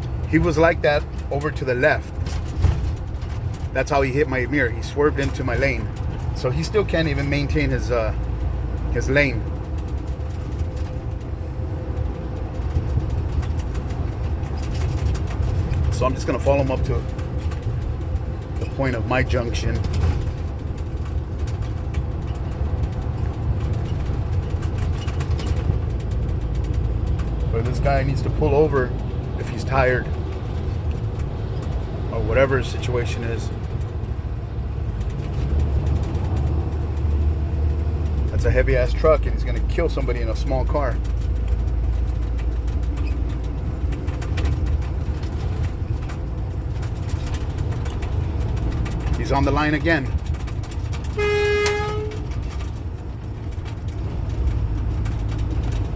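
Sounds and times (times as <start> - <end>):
engine and road rumble in cab: 0.0 - 55.9.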